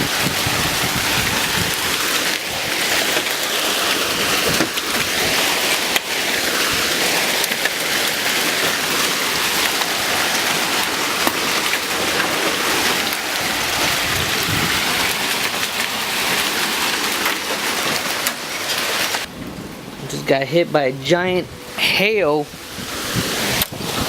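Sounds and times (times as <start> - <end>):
hailstones striking: 0.0 - 20.5
hail and heavy rain pelting: 0.0 - 24.0.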